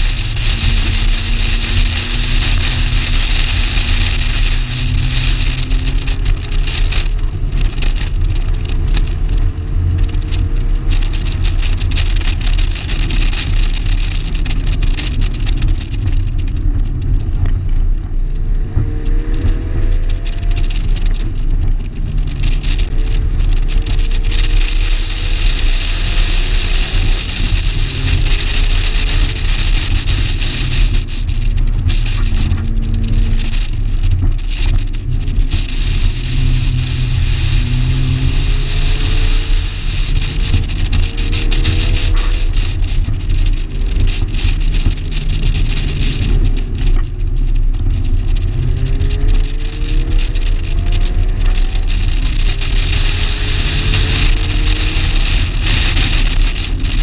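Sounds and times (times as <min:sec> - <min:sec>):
car engine revving through gears: 0:00.0 - 0:57.0
heavy low rumble: 0:00.0 - 0:57.0.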